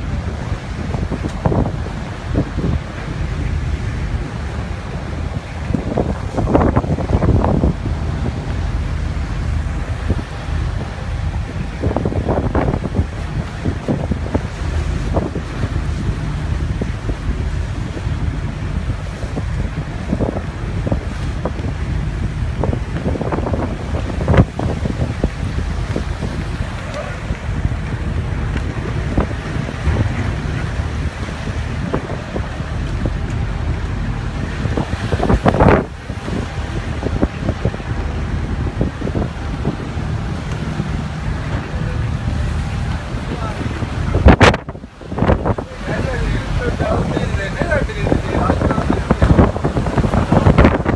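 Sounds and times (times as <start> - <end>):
rough sea rushing: 0.0 - 50.9
ship low rumble: 0.0 - 50.9
wind buffeting microphone: 0.0 - 50.9.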